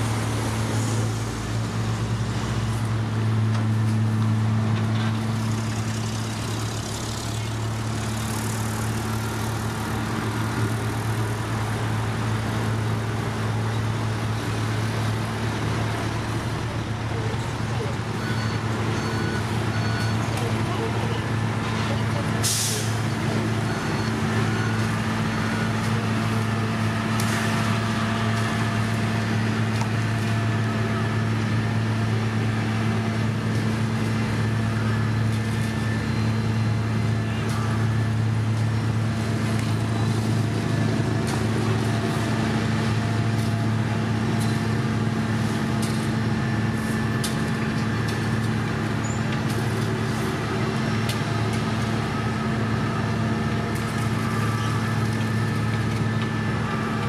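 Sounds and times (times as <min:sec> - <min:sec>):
diesel machinery humming: 0:00.0 - 0:57.0.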